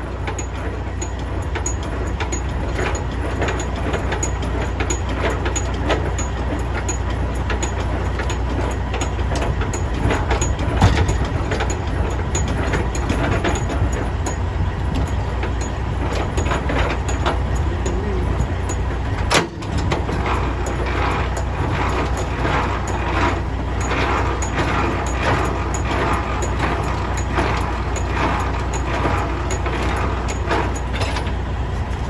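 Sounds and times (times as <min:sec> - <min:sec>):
faint regular ticking: 0:00.0 - 0:19.4, 0:20.0 - 0:31.1
diesel engine idling: 0:00.0 - 0:32.0.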